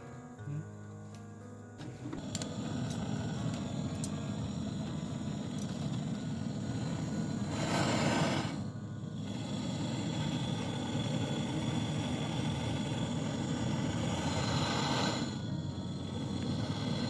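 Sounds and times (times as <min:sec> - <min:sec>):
gas torch flame rumbling: 0:01.8 - 0:17.0.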